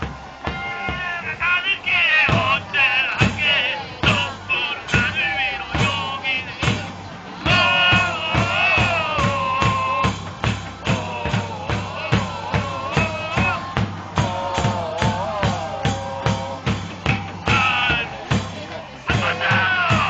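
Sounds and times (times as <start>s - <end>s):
football supporters chanting: 0.0s - 20.0s
steady drum beat: 0.0s - 20.0s.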